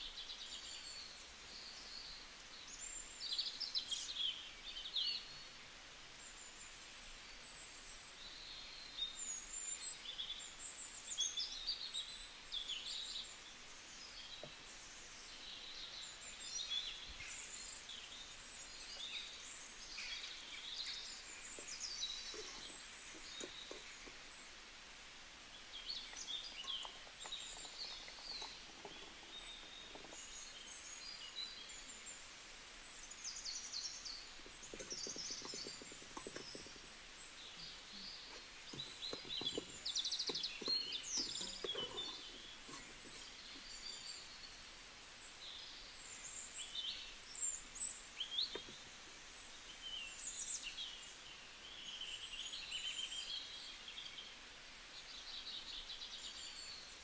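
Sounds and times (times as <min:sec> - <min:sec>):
birds chirping: 0:00.0 - 0:54.2.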